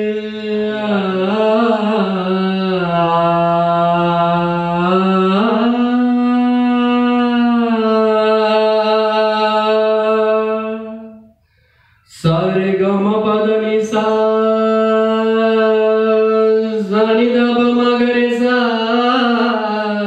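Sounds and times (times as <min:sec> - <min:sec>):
man singing long notes: 0:00.0 - 0:11.3, 0:12.1 - 0:20.0.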